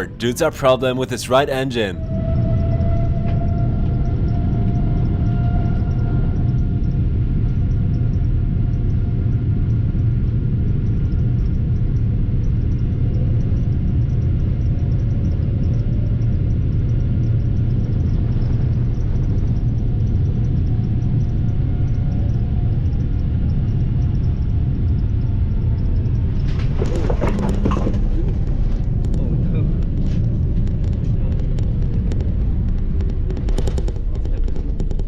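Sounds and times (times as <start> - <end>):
faint steady whine: 0.0 - 35.0
jet engines rumbling: 0.0 - 35.0.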